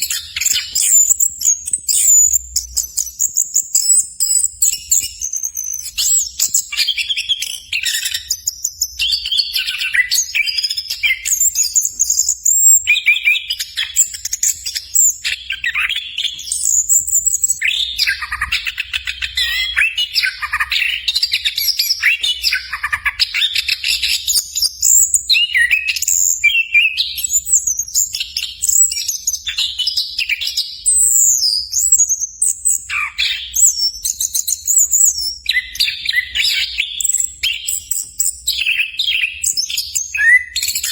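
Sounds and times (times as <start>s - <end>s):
thrush singing whistles and trills: 0.0s - 40.9s.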